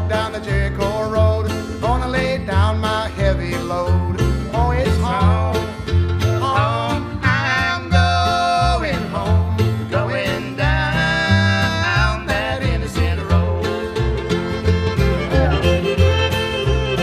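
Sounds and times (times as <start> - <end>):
banjo: 0.0 - 17.0
guitar: 0.0 - 17.0
steady bass line: 0.0 - 17.0.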